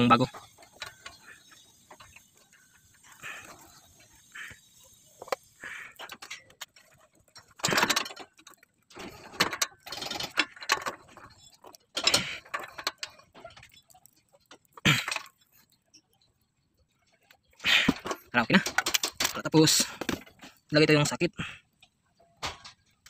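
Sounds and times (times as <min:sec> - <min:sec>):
metal clicking and scraping: 0:00.0 - 0:23.0.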